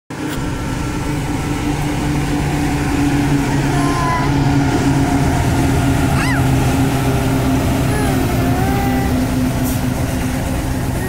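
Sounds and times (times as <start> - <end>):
diesel locomotive engine hum: 0.1 - 11.0.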